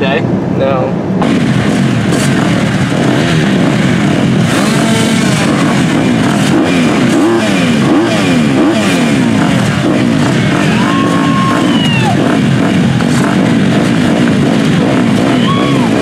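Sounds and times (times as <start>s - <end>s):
motocross bike engines revving: 0.9s - 16.0s.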